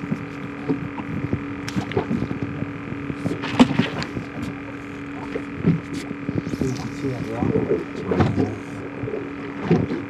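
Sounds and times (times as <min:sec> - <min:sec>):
underwater clicks and knocks: 0:00.0 - 0:06.8, 0:07.4 - 0:08.6, 0:09.4 - 0:10.0
low underwater hum: 0:00.0 - 0:10.0.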